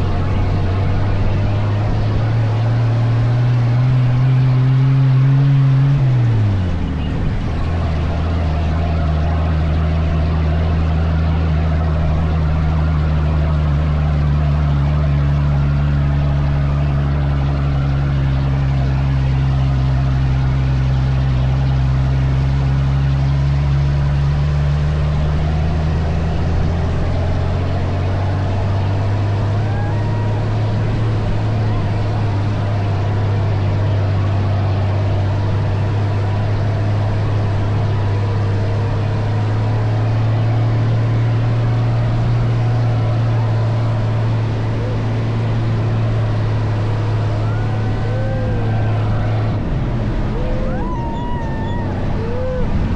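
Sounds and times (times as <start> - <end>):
dune buggy engine running: 0.0 - 52.9.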